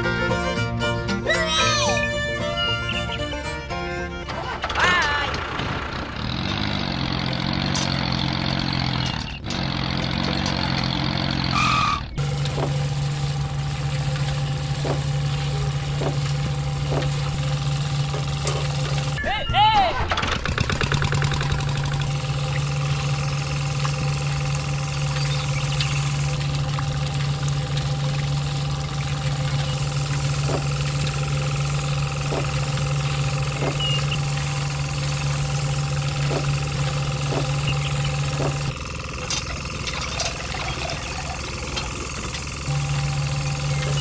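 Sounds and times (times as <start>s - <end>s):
small motor humming: 6.2s - 19.2s, 20.3s - 44.0s.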